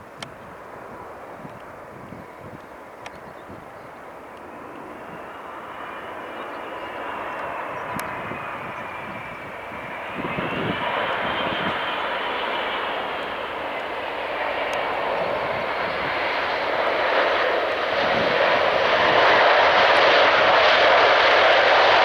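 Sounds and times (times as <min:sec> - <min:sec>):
airliner engines rushing: 0:00.0 - 0:22.0.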